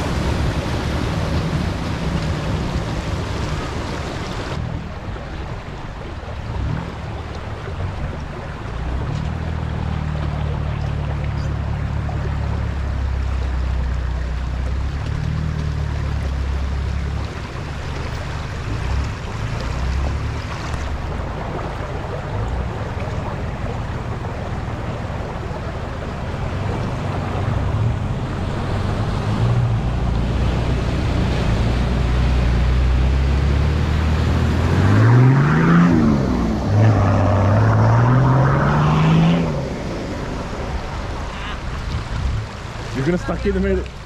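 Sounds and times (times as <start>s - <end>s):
river water rushing: 0.0s - 44.0s
vehicle engine revving: 6.4s - 43.9s.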